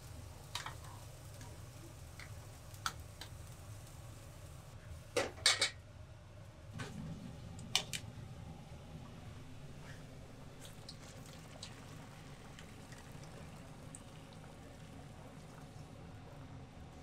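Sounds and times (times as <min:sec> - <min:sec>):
pots boiling with low bubbling: 0:00.0 - 0:17.0.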